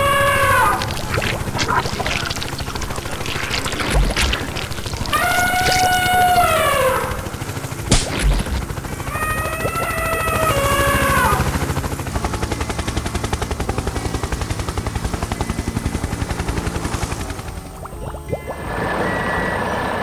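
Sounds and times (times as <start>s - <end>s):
motor running with rapid chatter: 0.0s - 17.8s.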